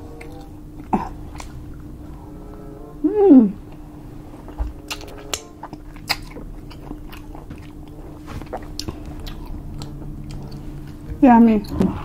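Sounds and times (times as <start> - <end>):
chewing and crunching: 0.0 - 2.2, 3.7 - 12.0.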